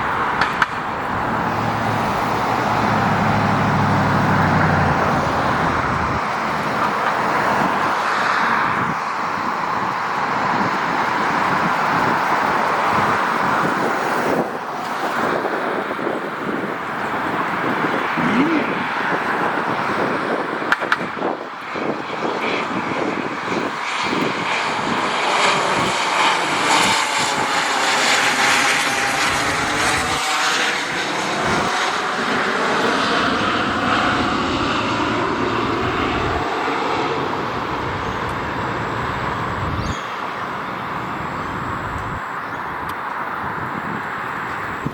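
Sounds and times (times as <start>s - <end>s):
jet flying past: 0.0s - 44.9s.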